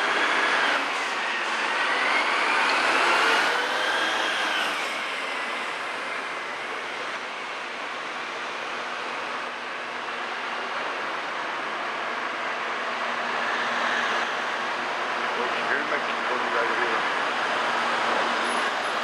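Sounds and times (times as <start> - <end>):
heavy construction machinery whining: 0.0 - 19.0.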